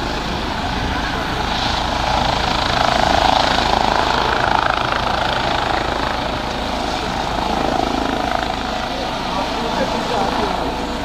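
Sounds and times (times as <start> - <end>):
helicopter lifting off: 0.0 - 11.0.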